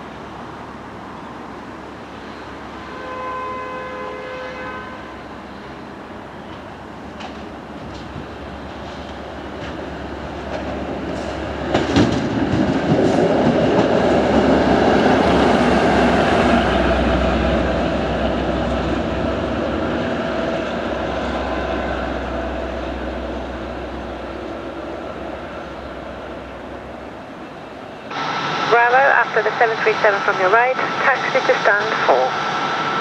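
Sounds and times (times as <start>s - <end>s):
train passing: 0.0s - 33.0s.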